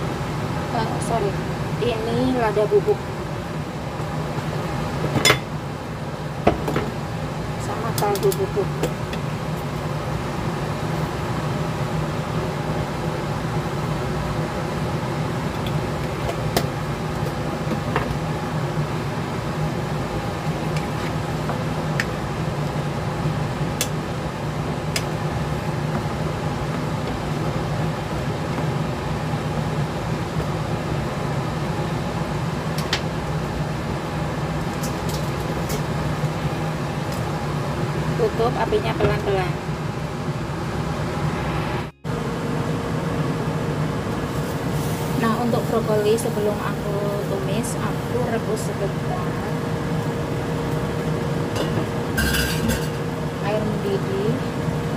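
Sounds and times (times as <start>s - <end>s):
fan whirring: 0.0s - 54.9s.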